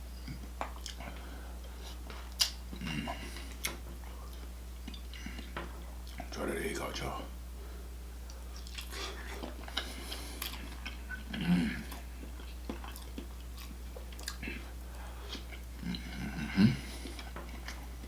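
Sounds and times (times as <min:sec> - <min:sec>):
person chewing with wet smacks: 0:00.2 - 0:06.3, 0:08.2 - 0:18.0.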